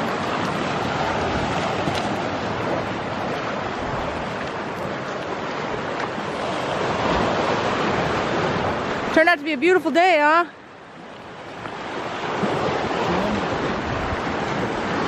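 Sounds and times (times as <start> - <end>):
surf washing over rocks: 0.0 - 15.0.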